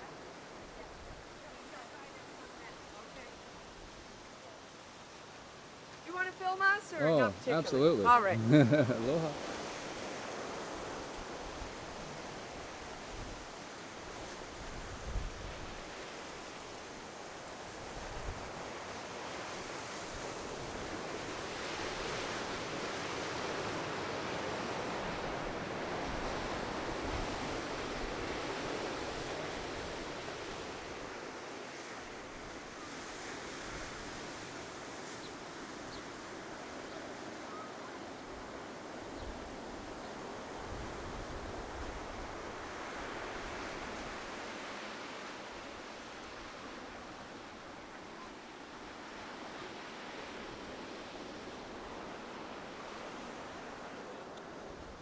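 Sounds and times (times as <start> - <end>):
ocean surf washing ashore: 0.0 - 55.0.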